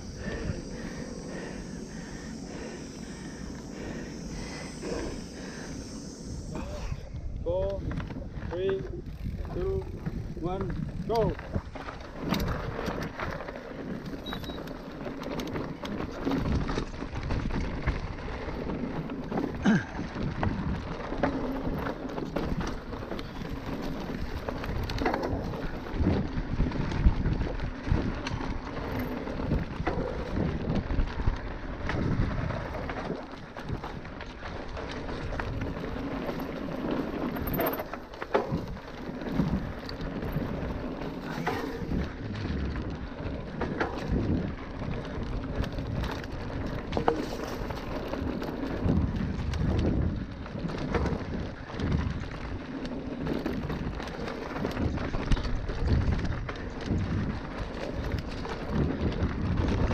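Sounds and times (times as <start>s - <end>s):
wind buffeting microphone: 0.0s - 59.9s
bike rattles and knocks: 6.5s - 59.9s.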